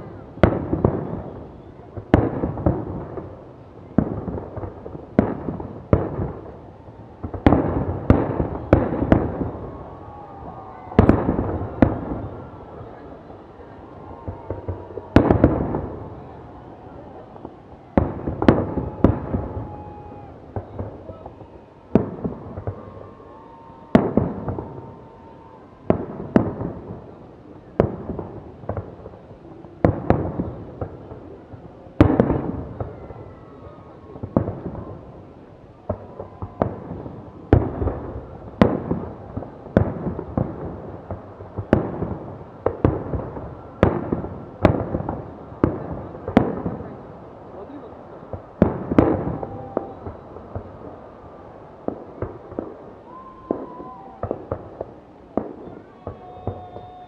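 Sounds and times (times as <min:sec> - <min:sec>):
fireworks bangs with rumble: 0:00.0 - 0:57.0.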